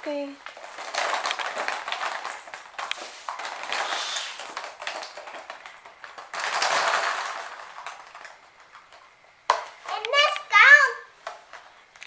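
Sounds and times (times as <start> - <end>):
plastic packaging rustling: 0.1 - 10.3.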